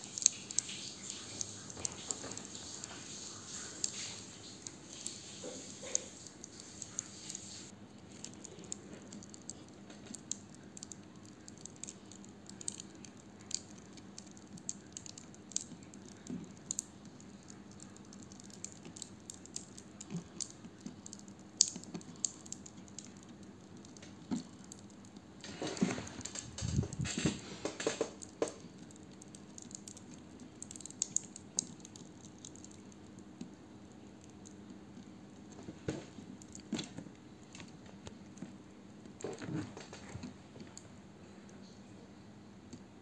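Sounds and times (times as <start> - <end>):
soft squishes: 0.0 - 43.0.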